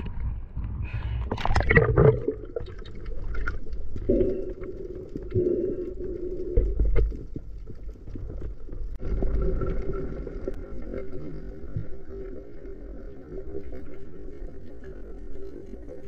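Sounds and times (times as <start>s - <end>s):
underwater rumble: 0.0s - 16.0s.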